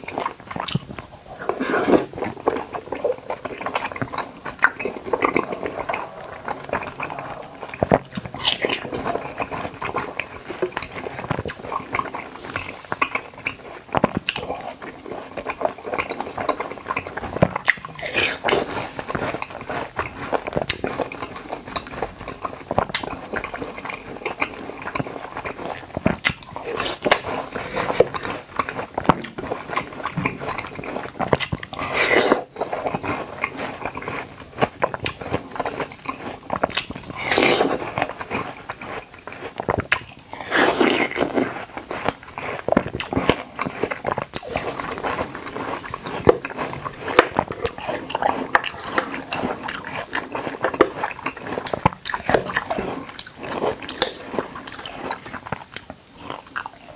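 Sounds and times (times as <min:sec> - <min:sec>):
biting and chewing jelly: 0:00.0 - 0:56.9.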